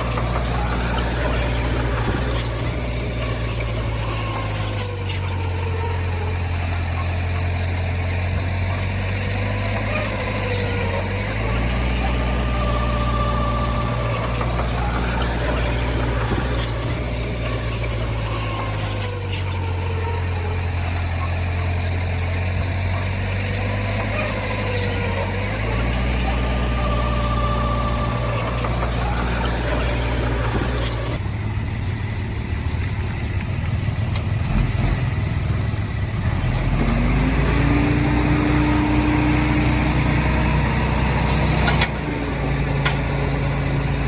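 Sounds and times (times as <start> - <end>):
bulldozer diesel engine: 0.0 - 44.0.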